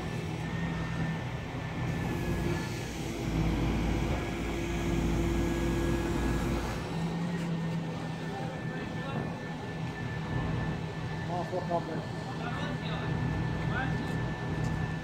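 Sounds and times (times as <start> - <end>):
diesel engine and hydraulics: 0.0 - 15.0.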